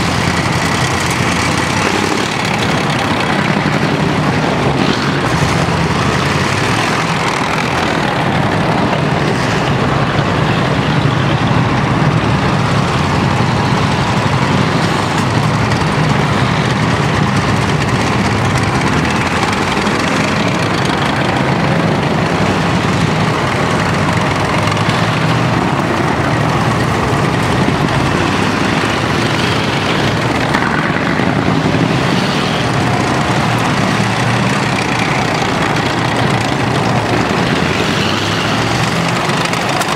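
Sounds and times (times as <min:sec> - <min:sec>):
diesel engines running: 0:00.0 - 0:39.9
tracks rolling on asphalt: 0:00.0 - 0:39.9.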